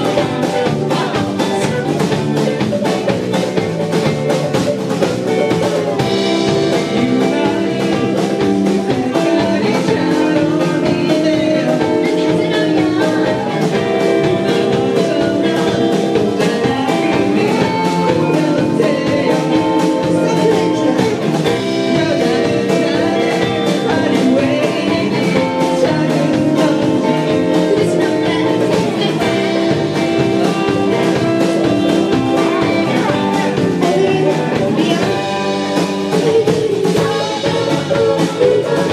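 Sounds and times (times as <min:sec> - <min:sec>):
live band playing: 0:00.0 - 0:38.9
person singing: 0:00.0 - 0:38.9.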